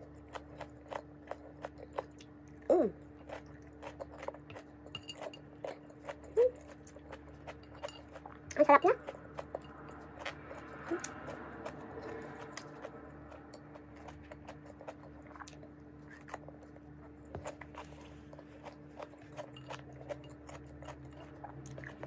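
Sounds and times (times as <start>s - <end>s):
person chewing: 0.0s - 22.0s
steady low hum: 0.0s - 22.0s.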